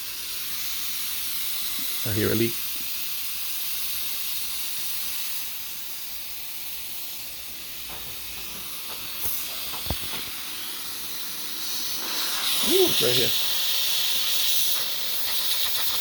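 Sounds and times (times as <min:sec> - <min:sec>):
compressed air hissing from leak: 0:00.0 - 0:16.0.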